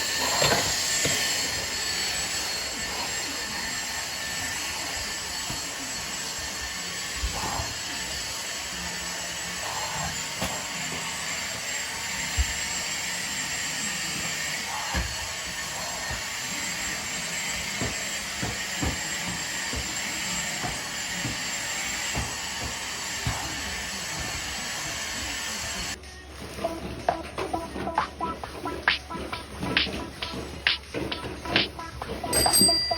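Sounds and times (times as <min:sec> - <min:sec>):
vacuum cleaner running: 0:00.0 - 0:32.9.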